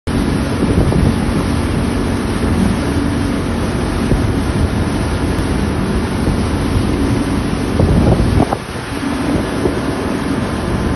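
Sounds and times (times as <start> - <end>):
outboard motor running: 0.1 - 10.9
water rushing: 0.1 - 10.9
wind buffeting microphone: 0.1 - 10.9.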